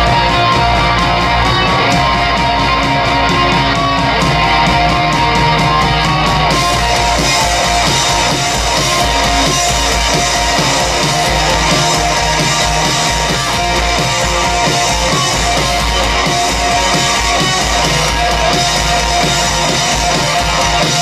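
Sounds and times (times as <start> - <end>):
bass guitar: 0.0 - 21.0
distorted electric guitars: 0.0 - 21.0
drums: 0.0 - 21.0.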